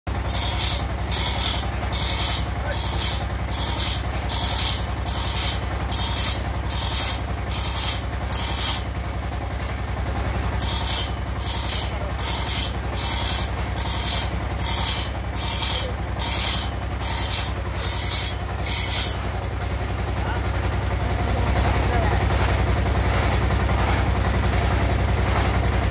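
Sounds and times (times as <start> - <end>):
hand saw rasping through wood: 0.1 - 25.9.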